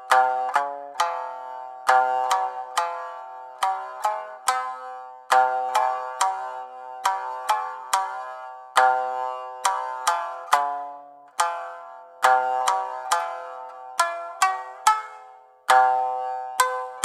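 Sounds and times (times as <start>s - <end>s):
plucked note melody: 0.0s - 17.0s.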